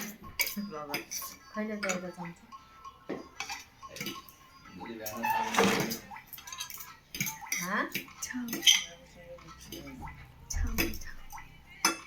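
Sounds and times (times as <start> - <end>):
metal utensils clinking against plates: 0.0 - 2.2, 3.2 - 12.0.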